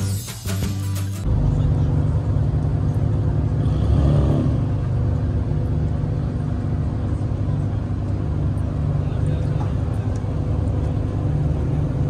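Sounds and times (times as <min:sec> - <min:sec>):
low engine rumble: 0:01.1 - 0:12.0.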